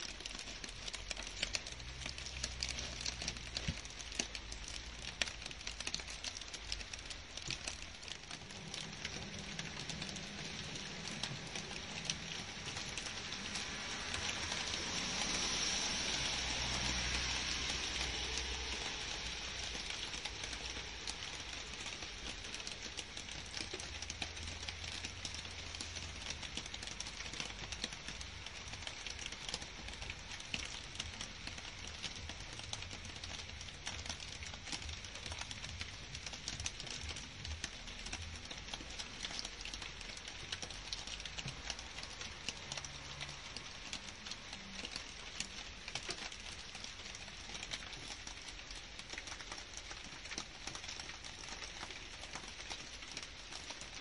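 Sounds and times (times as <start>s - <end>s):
close raindrop taps: 0.0s - 54.0s
rain falling on foliage: 0.0s - 54.0s.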